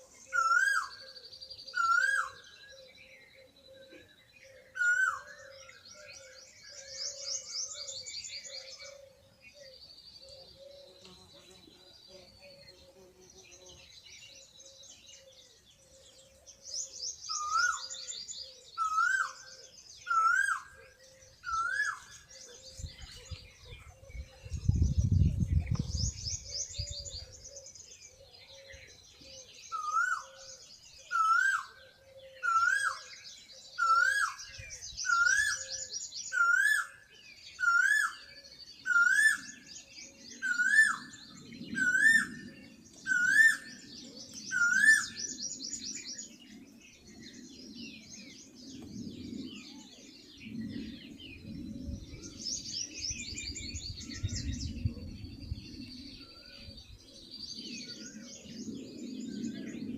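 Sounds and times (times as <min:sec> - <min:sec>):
small birds twittering: 0:00.0 - 0:59.9.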